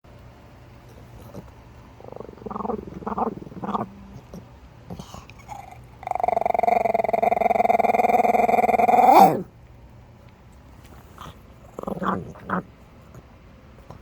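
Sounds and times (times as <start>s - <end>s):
small dog vocalizing: 0.9s - 9.5s, 11.0s - 14.0s.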